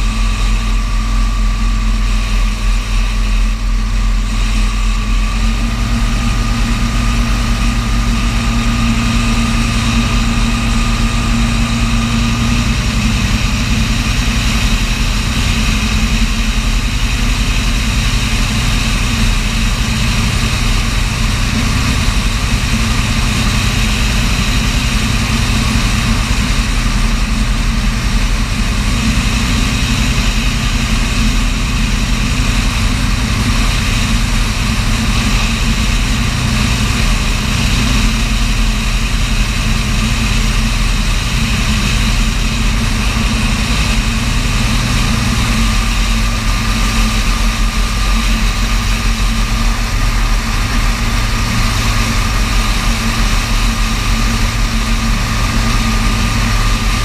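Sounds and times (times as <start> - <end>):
light aircraft engine droning: 0.0 - 57.0
rushing airflow: 0.0 - 57.0.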